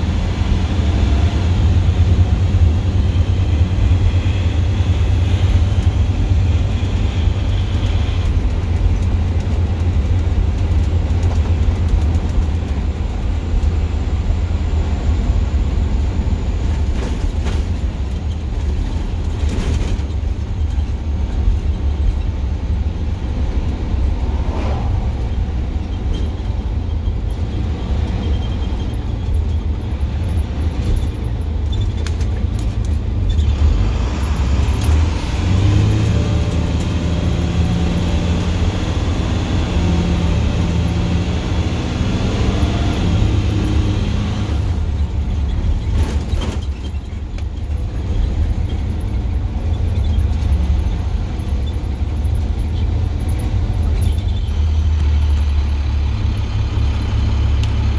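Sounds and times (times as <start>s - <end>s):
diesel bus engine droning: 0.0s - 57.9s.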